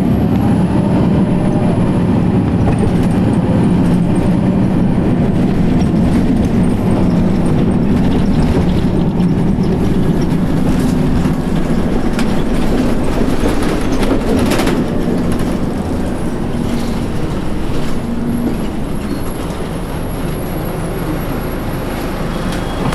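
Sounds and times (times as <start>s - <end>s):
bus diesel engine drone: 0.0s - 22.9s.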